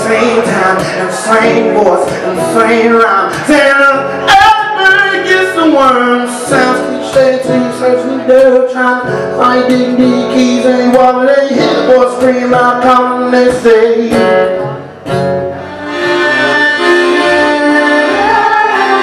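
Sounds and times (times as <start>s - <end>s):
man singing: 0.0s - 14.8s, 16.6s - 19.0s
strummed acoustic guitar: 0.0s - 19.0s.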